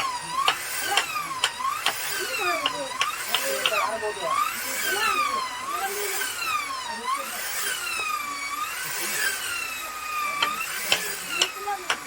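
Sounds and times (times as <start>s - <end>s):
power tool cutting wood: 0.0s - 12.0s.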